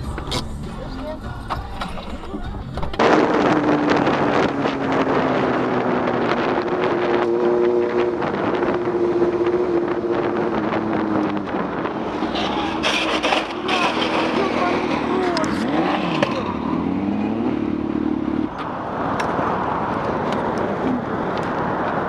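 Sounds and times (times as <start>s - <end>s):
vehicle engine running: 0.0s - 22.0s
wind noise on microphone: 1.7s - 22.0s.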